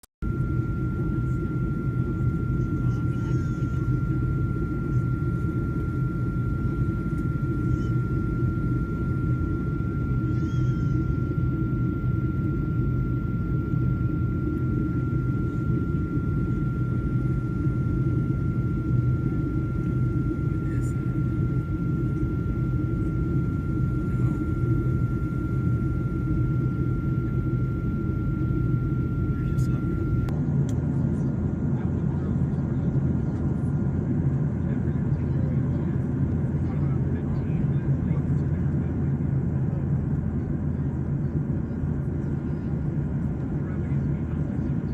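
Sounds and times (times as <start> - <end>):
helicopter rumble: 0.2 - 44.9
thin steady whine: 0.2 - 44.9.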